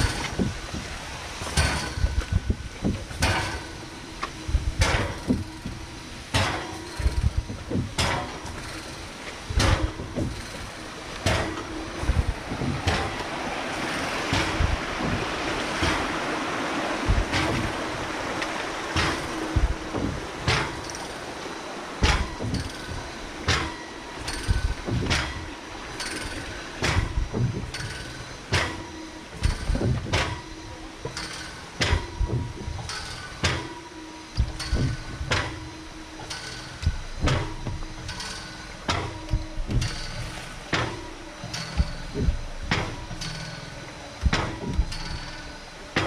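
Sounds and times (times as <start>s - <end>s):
rushing water: 0.0s - 46.0s.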